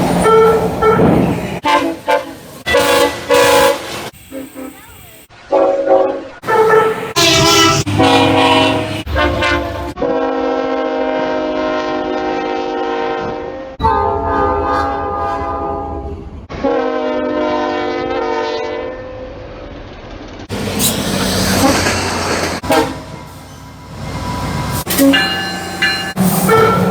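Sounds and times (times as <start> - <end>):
train passing: 0.0 - 10.0, 13.7 - 26.9
locomotive horn blasts: 0.2 - 4.8, 5.5 - 19.1, 20.6 - 23.2, 24.8 - 26.9.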